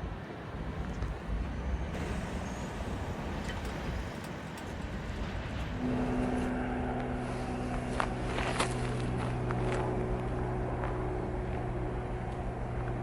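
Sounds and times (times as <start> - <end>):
steady pitched hum: 0.0 - 13.0
train rumbling past: 1.3 - 13.0.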